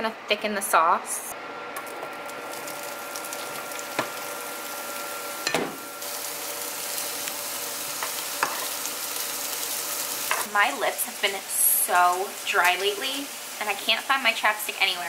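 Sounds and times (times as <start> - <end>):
pepper sizzling in a frying pan: 1.8 - 15.0.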